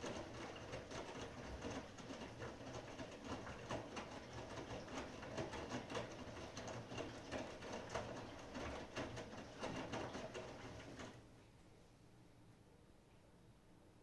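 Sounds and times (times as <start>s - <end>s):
laundry tumbling in washing machine: 0.0s - 11.3s.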